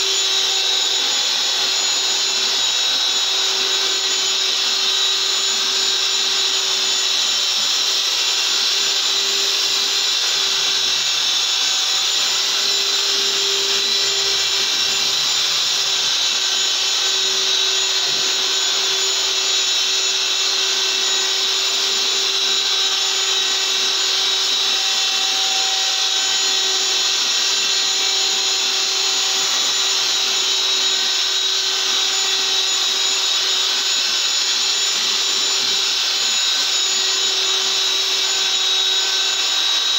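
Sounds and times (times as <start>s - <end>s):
dust extraction vacuum: 0.0s - 39.9s
electric wall sander running: 0.0s - 39.9s.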